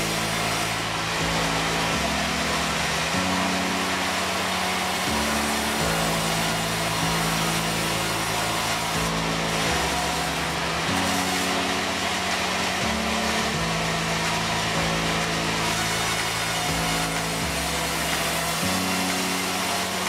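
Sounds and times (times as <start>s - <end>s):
saw blade cutting timber: 0.0s - 20.0s.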